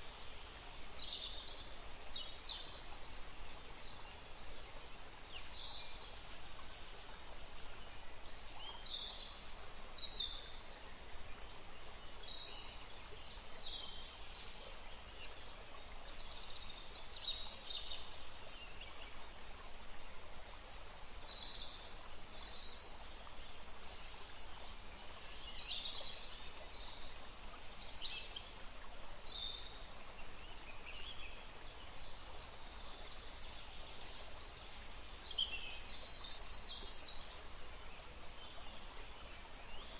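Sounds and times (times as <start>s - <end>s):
water: 0.0s - 39.9s
wind: 0.0s - 39.9s.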